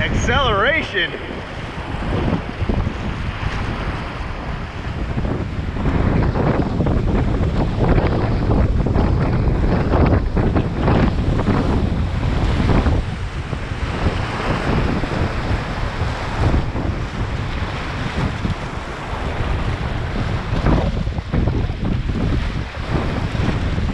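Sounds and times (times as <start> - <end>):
whitewater rushing and splashing: 0.0 - 23.9
wind buffeting microphone: 0.0 - 23.9.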